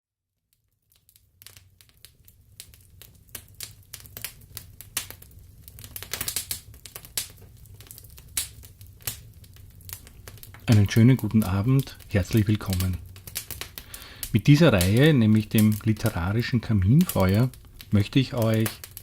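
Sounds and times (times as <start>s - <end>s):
wood fire crackling: 0.4s - 19.0s.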